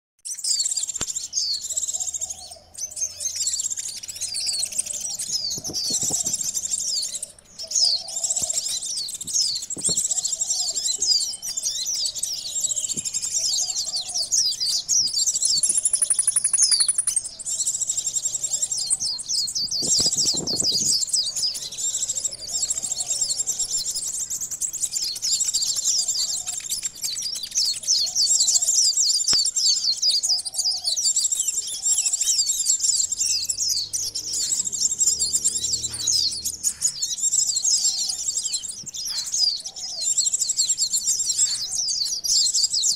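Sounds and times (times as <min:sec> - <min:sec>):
sunbirds chattering: 0:00.3 - 0:42.9.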